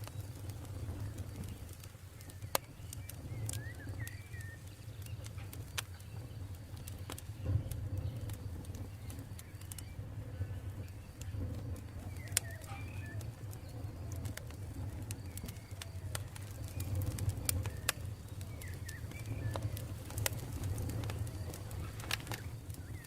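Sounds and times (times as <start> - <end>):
birds chirping: 0.0 - 23.0
campfire crackling and popping: 0.0 - 23.0.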